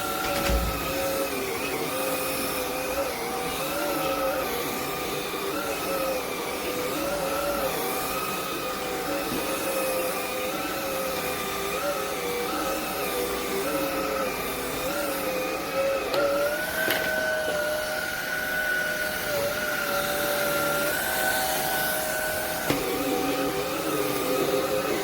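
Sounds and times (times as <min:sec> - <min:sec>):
stick vacuum running: 0:00.0 - 0:25.0.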